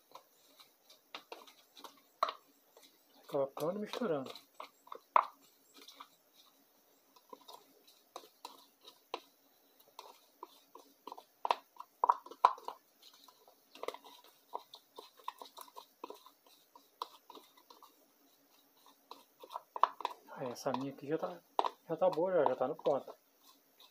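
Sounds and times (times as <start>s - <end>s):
spoon scraping tin can: 0.0s - 23.9s.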